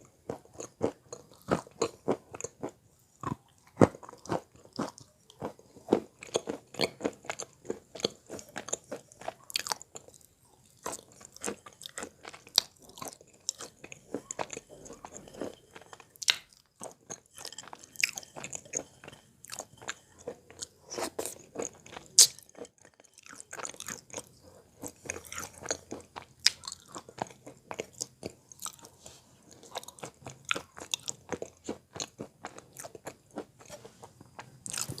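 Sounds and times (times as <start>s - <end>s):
chalk being chewed: 4.1s - 35.0s.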